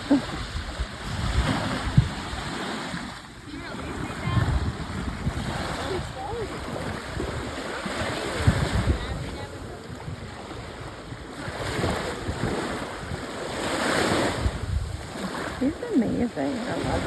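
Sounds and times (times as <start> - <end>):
rushing water: 0.0 - 17.0
wind buffeting microphone: 0.0 - 17.0.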